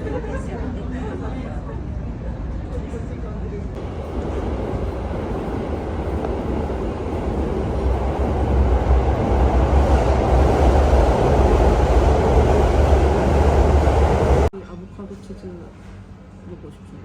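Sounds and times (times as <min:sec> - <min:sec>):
train rumbling: 0:00.0 - 0:14.5.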